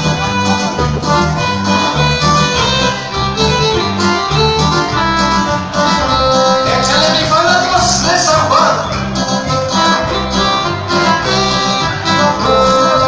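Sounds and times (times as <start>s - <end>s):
guitar and fiddle music: 0.0s - 13.0s
rhythmic bass: 0.0s - 13.0s.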